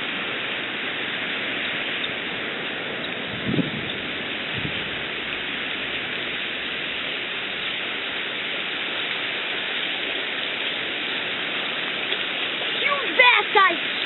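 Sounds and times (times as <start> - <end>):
falling water hiss: 0.0 - 14.0.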